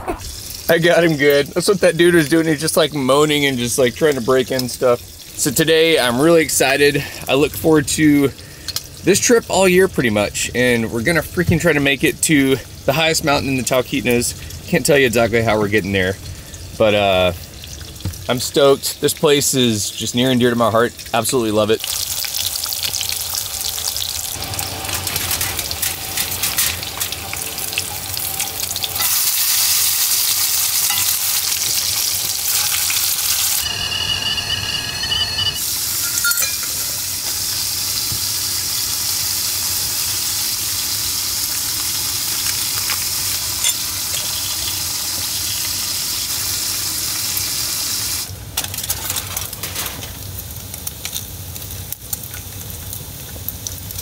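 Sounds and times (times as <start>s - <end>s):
bacon sizzling in a pan: 0.2s - 10.1s, 11.0s - 54.0s.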